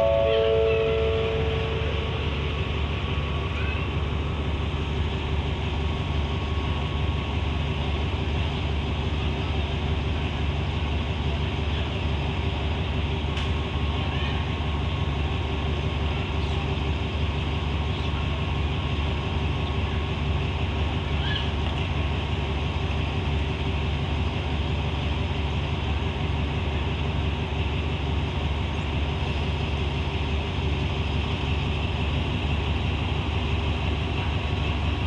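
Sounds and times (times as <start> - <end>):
diesel locomotive engine idling: 0.0 - 35.0.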